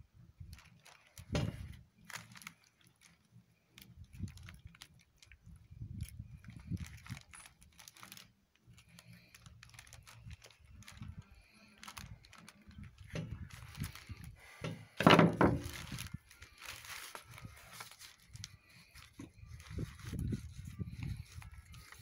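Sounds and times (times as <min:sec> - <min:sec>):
plastic bag rustling: 0:00.4 - 0:22.0.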